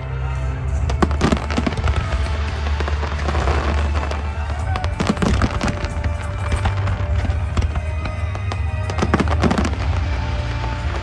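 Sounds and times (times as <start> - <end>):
music playing: 0.0 - 11.0
fireworks bursting and crackling: 0.3 - 11.0.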